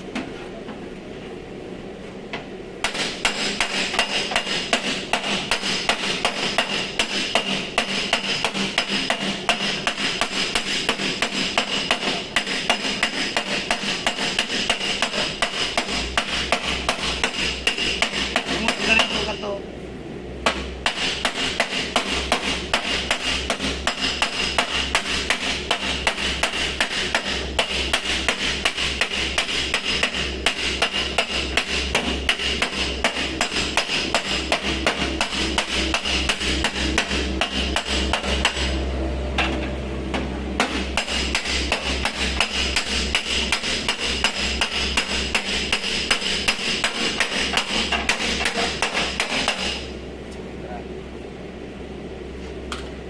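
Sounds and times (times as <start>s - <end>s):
hammer blows on sheet metal: 2.8s - 19.4s, 20.4s - 38.8s, 40.1s - 49.9s.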